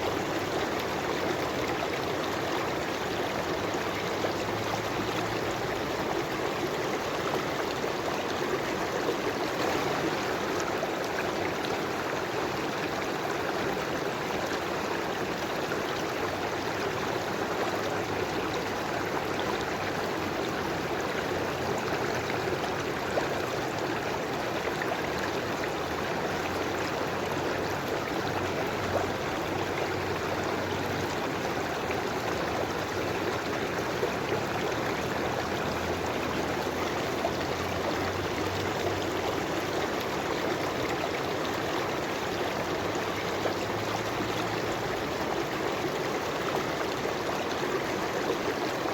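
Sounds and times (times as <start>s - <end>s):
river water flowing over stones: 0.0s - 48.9s.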